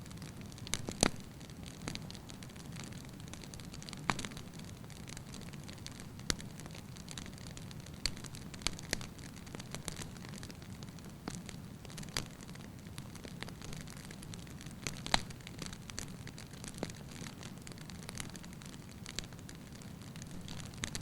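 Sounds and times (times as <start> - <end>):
logs crackling and popping: 0.0 - 21.0
low rumble of flames: 0.0 - 21.0.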